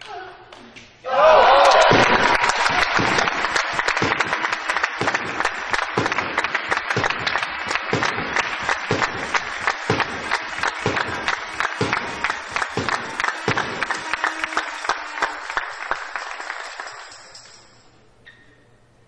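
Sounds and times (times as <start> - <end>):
crowd applauding: 1.2 - 17.9
single loud claps: 1.6 - 17.1.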